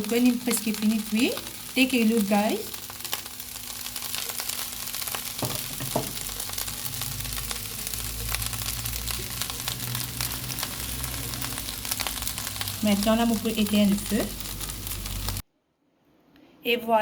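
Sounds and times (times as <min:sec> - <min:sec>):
fried rice sizzling in a pan: 0:00.0 - 0:15.4.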